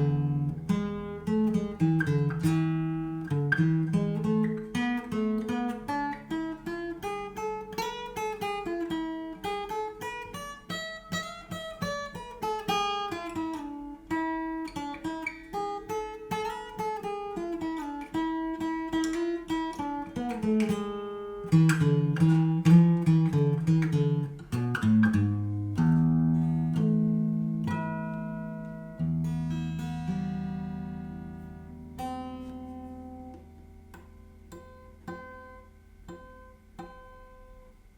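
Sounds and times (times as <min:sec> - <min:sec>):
acoustic guitar picking: 0:00.0 - 0:37.9.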